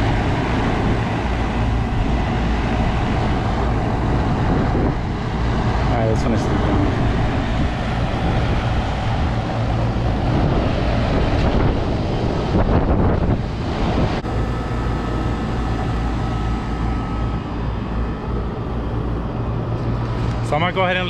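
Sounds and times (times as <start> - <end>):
air conditioner humming: 0.0 - 21.0
wind buffeting microphone: 0.0 - 21.0.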